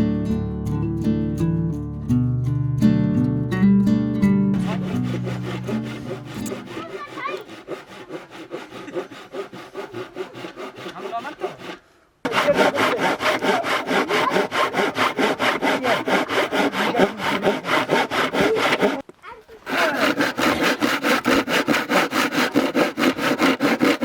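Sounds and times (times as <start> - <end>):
hand saw cutting wood: 4.6 - 24.0.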